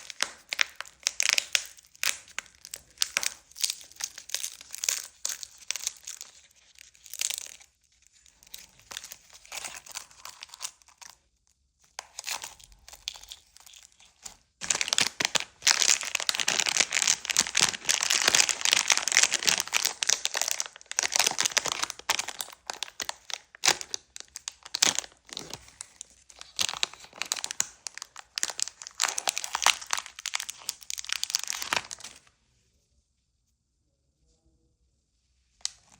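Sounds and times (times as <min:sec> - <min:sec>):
plastic wrapper crinkling: 0:00.0 - 0:11.2, 0:11.8 - 0:32.3.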